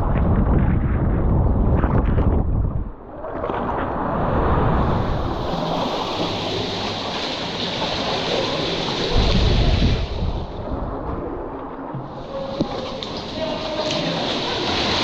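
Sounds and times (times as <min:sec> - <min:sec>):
sea water sloshing: 0:03.0 - 0:15.0.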